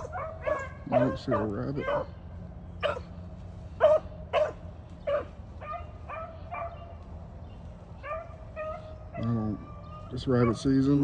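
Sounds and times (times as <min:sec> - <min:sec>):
hounds baying and yelping: 0:00.0 - 0:02.2, 0:02.8 - 0:07.0, 0:07.9 - 0:11.0.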